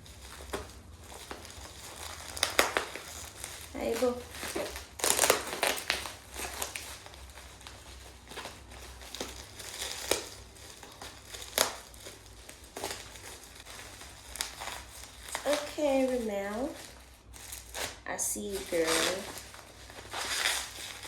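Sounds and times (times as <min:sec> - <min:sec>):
packaging torn and crumpled: 0:00.0 - 0:21.0.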